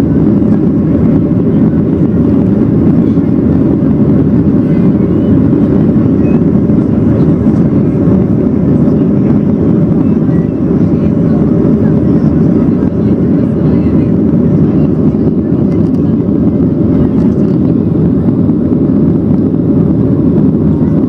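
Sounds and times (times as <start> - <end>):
airplane cabin engine roar: 0.0 - 21.0.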